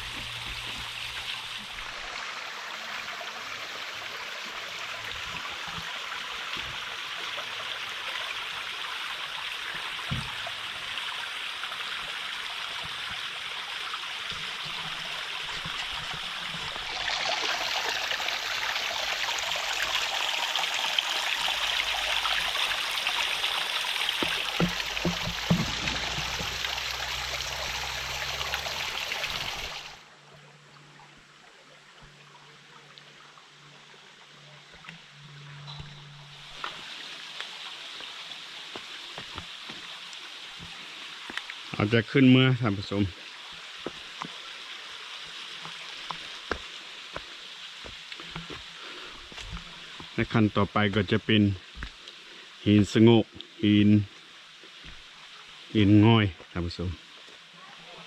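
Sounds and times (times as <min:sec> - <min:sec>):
stream and waterfall running: 0:00.0 - 0:58.0.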